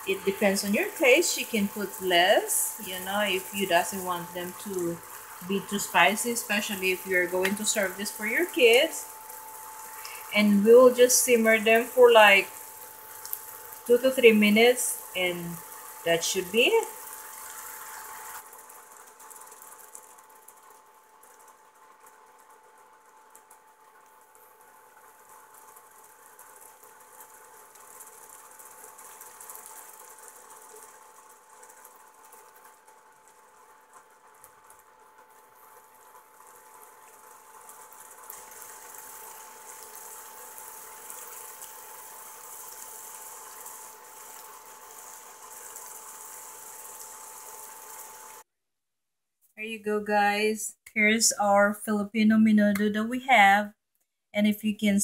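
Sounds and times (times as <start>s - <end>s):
stew bubbling and crackling: 0.0s - 10.4s, 11.2s - 14.0s, 15.0s - 48.4s.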